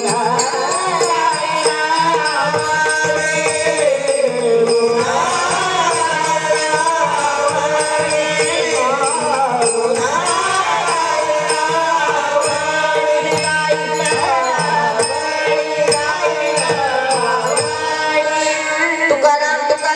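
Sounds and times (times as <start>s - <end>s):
sharp percussion strikes: 0.0s - 19.9s.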